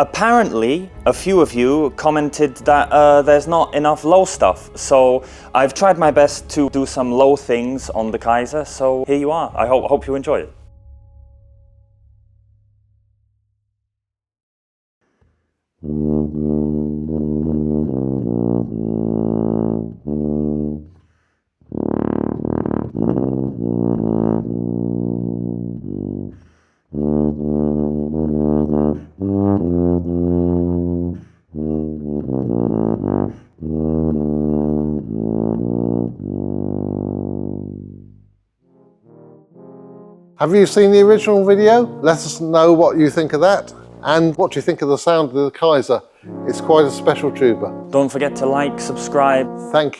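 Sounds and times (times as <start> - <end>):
tuba playing low notes: 0.0 - 13.2, 15.8 - 21.0, 21.6 - 44.8, 46.2 - 49.9.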